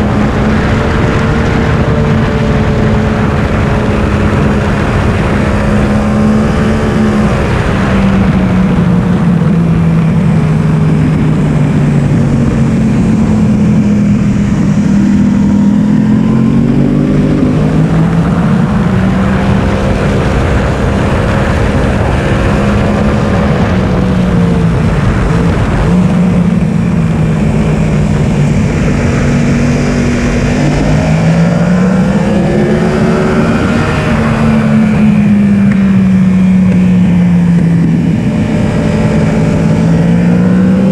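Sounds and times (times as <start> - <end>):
motorcycle engine revving: 0.0 - 40.9
wind rushing: 0.0 - 40.9.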